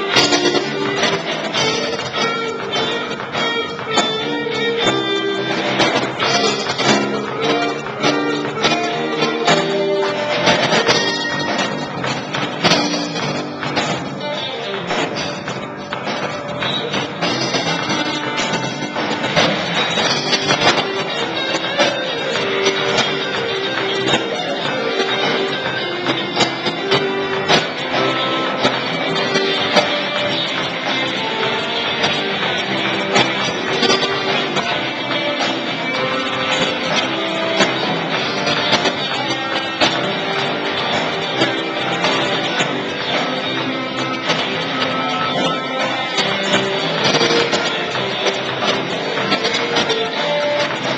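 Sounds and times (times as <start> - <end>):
live band playing guitar music: 0.0 - 50.9.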